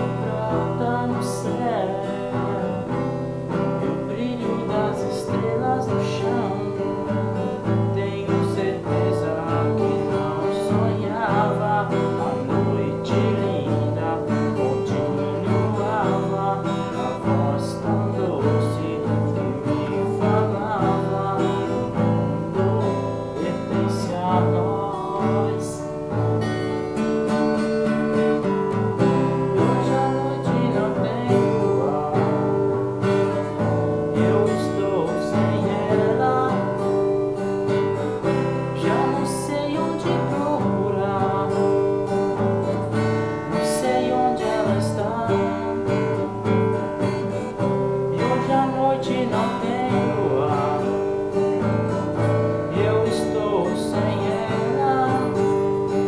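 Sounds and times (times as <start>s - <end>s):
classical guitar strumming: 0.0s - 56.0s
man singing: 0.0s - 56.0s.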